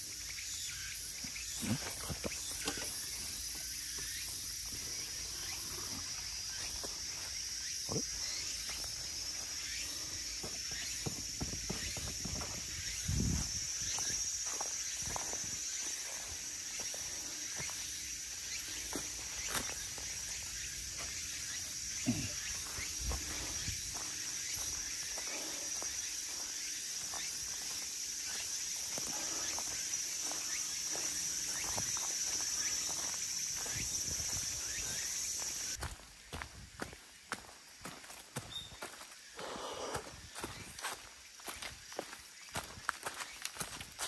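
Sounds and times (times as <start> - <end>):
high-pitched insect drone: 0.0 - 44.0
footsteps on trail: 0.1 - 44.0.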